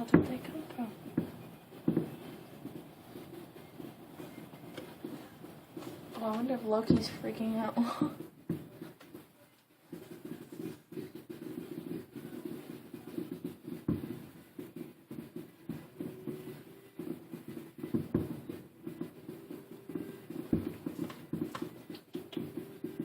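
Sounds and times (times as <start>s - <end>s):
distant fireworks popping: 0.0s - 23.0s.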